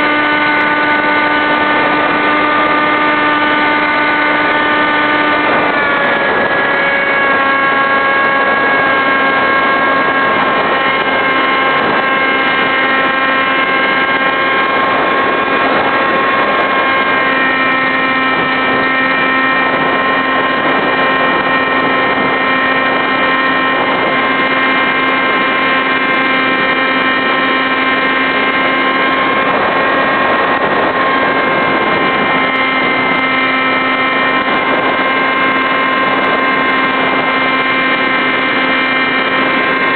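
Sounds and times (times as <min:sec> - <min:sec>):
electric motor and propeller whine: 0:00.0 - 0:39.9
wind rushing: 0:03.8 - 0:38.0.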